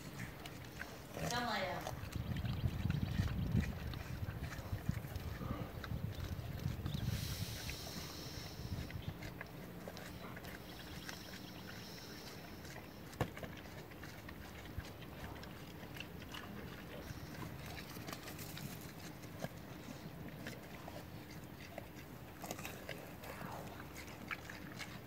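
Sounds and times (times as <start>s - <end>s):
animals foraging clicks and crunches: 0.0s - 25.0s
low background rumble: 0.0s - 25.0s.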